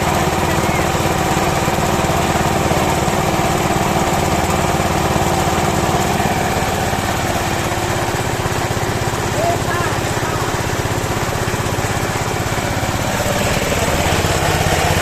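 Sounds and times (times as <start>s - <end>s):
small pump engine running: 0.0s - 15.0s.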